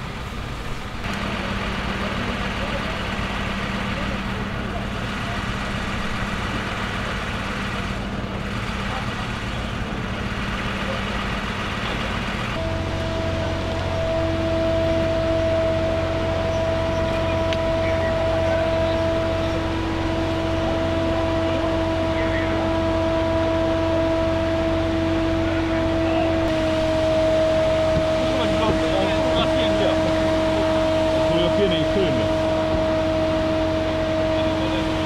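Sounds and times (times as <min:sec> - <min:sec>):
rough engine idle: 0:00.0 - 0:35.0
motor humming with whine: 0:01.0 - 0:35.0.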